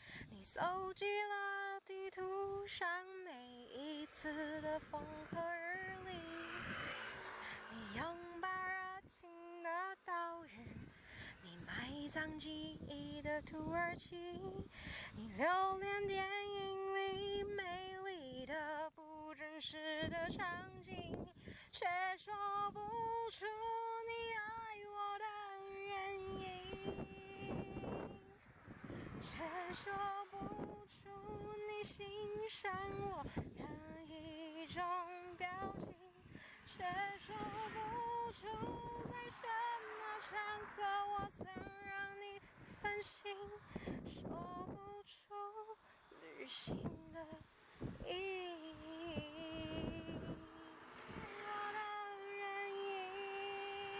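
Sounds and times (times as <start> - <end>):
person singing with vibrato: 0.0 - 47.4, 48.0 - 53.9.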